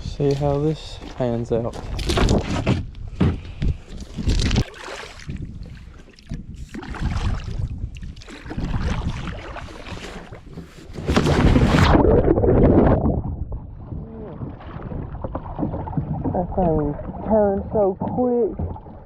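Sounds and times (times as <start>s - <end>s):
water splashing around kayak: 0.0s - 19.0s
wind buffeting microphone: 0.9s - 9.4s, 10.8s - 19.0s.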